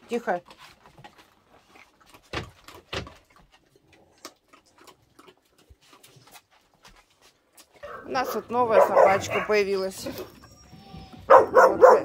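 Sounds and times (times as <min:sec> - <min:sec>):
dogs eating from bowls: 0:00.0 - 0:12.0.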